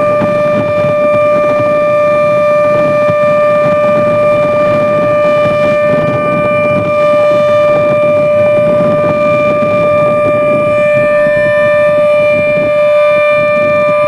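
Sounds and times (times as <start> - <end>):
civil defence siren steady tone: 0.0 - 14.0.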